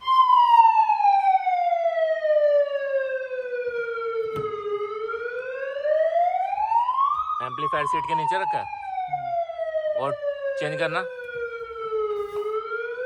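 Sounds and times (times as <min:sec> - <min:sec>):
electronic siren wailing: 0:00.0 - 0:13.0.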